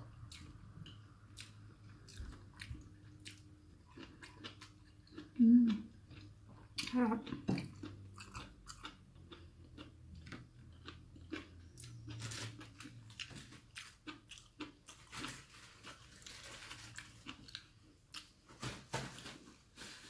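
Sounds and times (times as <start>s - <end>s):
person chewing food: 0.0s - 18.4s.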